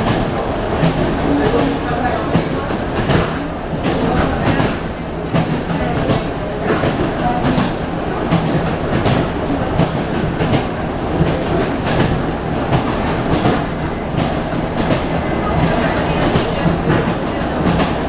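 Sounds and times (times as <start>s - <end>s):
train running rumble and hum: 0.0s - 18.0s.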